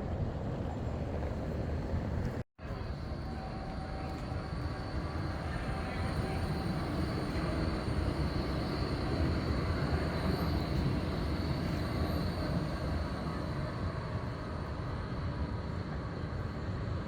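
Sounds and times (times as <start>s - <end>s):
tram rolling rumble: 0.0s - 17.0s.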